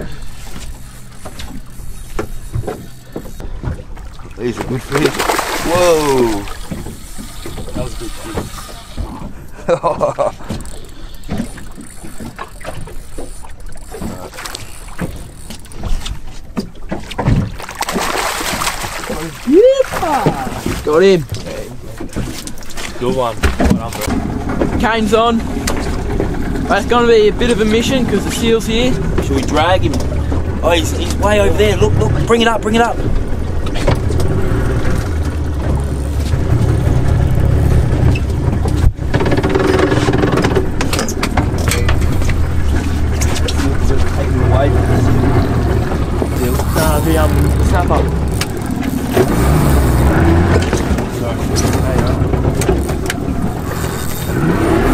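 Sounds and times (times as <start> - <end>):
outboard motor idling: 0.0 - 54.9
water slapping boat hull: 0.0 - 54.9.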